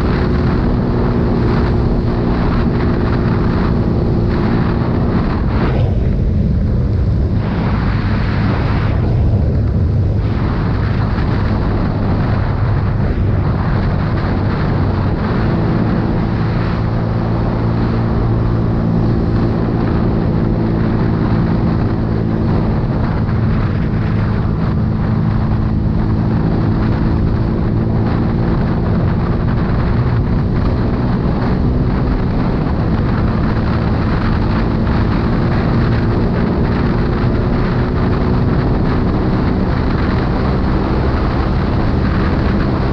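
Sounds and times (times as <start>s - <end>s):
motorcycle engine running: 0.0s - 42.9s
wind noise on microphone: 0.0s - 42.9s.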